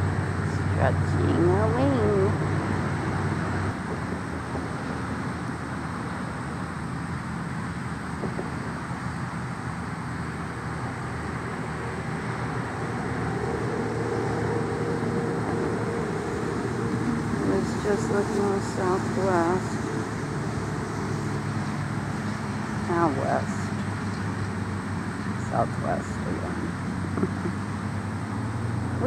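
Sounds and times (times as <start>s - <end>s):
distant road traffic rumbling: 0.0s - 29.0s
passing vehicle engine hum: 0.0s - 29.0s.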